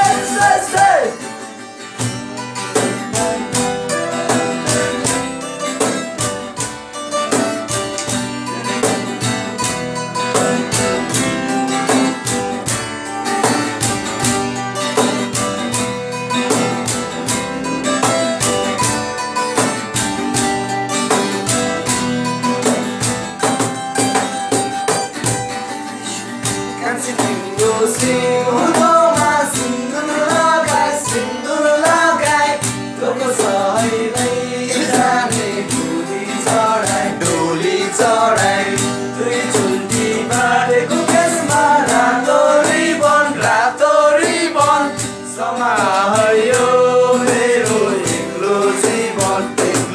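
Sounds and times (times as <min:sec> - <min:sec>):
acoustic guitar strumming: 0:00.0 - 0:49.9.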